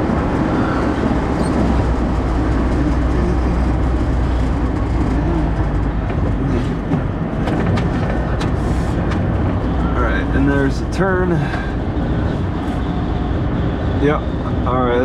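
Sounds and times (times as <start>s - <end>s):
car cabin engine and tyre noise: 0.0s - 15.0s.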